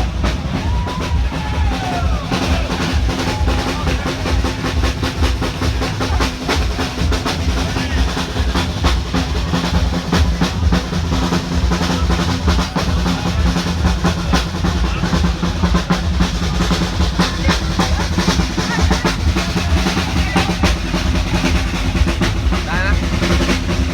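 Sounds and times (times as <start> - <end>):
fast drumming: 0.0 - 23.9
loud music with heavy bass: 0.0 - 23.9.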